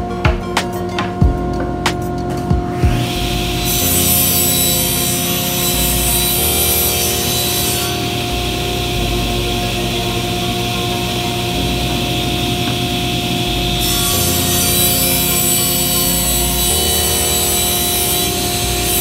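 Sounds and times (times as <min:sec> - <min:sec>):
table saw running: 0:02.7 - 0:19.0.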